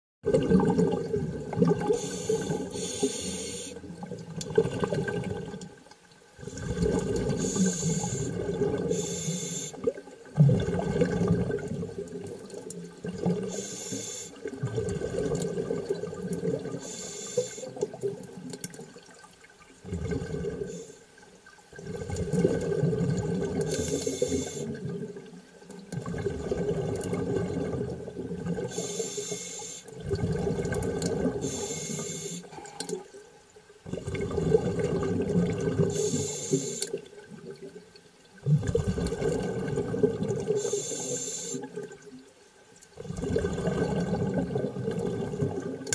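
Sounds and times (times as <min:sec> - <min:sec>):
underwater rushing water: 0:00.2 - 0:42.2, 0:42.9 - 0:45.9.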